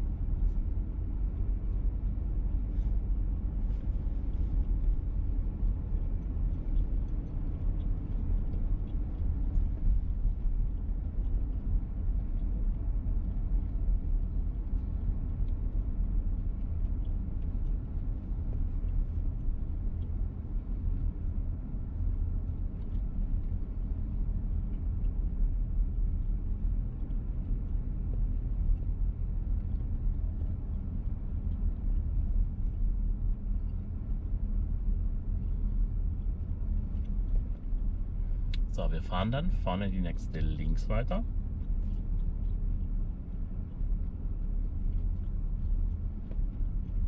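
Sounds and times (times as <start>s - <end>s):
car engine from inside cabin: 0.0s - 47.0s.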